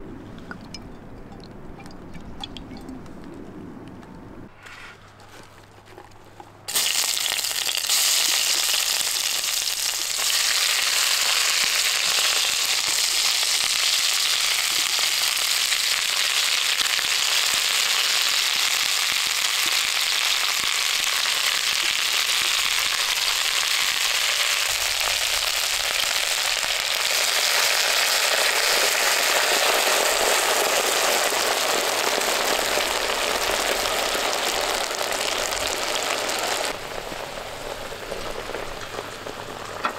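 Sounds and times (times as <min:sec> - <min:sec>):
onions sizzling in hot oil: 0:06.7 - 0:39.9.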